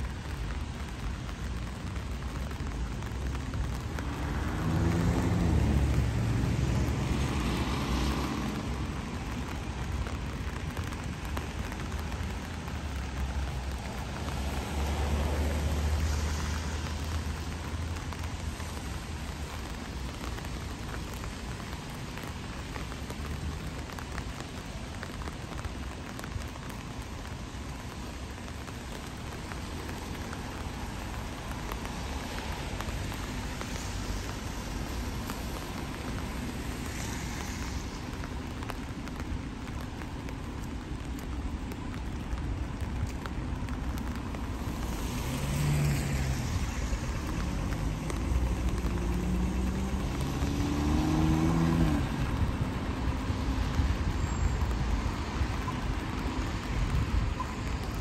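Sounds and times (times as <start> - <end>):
rain on pavement: 0.0 - 58.0.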